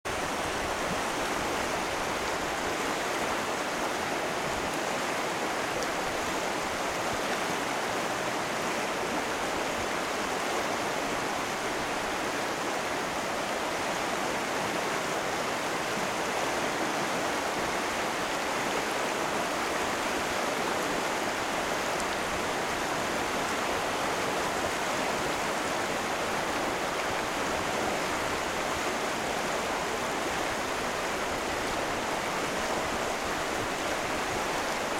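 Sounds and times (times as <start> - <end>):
river water rushing over rocks: 0.1 - 34.9.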